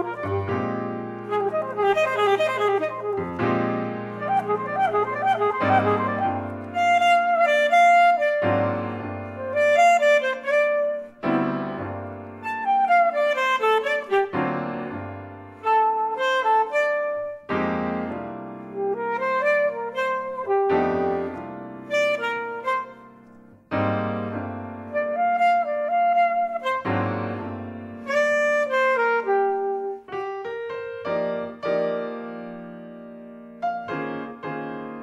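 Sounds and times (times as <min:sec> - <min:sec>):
saxophone melody: 0:00.0 - 0:32.7
piano chords: 0:00.0 - 0:35.0.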